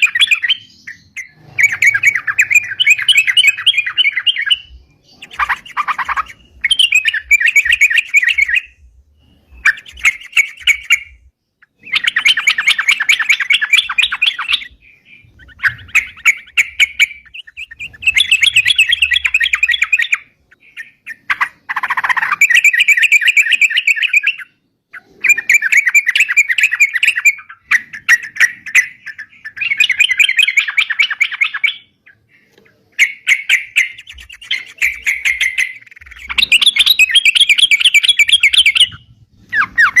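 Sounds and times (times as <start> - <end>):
bulbul bubbling chattering song: 0.0 - 40.0.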